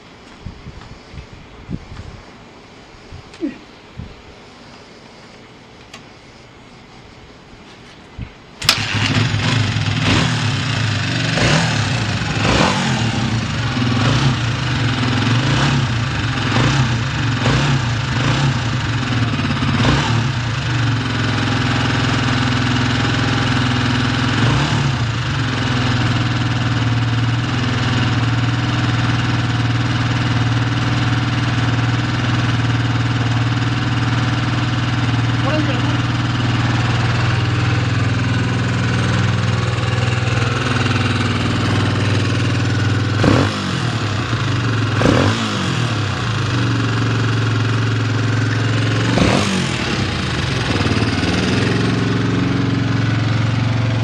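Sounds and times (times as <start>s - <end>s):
engine throttle blips: 8.6s - 54.0s
motorcycle engine idling: 8.6s - 54.0s
motorcycle engine kick-started: 8.6s - 54.0s.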